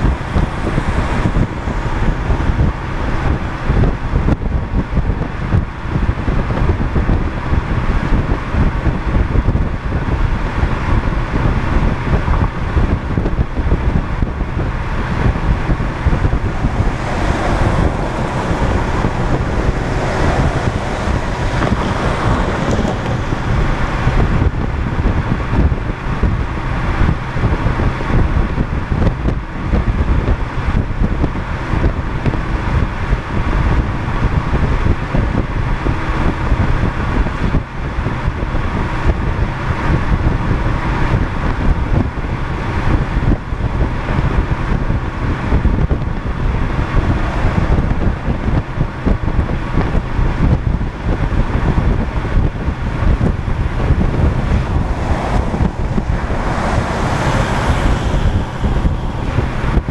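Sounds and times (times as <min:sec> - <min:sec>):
car tyre and road noise: 0:00.0 - 0:59.9
passing truck rush: 0:00.0 - 0:59.9
wind buffeting microphone: 0:00.0 - 0:59.9.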